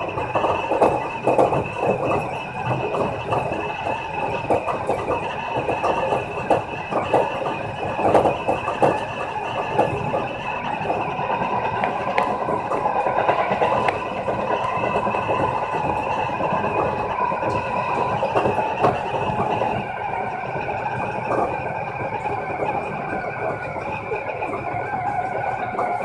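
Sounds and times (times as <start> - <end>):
constant hum: 0.0 - 26.0
train wheels rumbling on rail: 0.0 - 26.0.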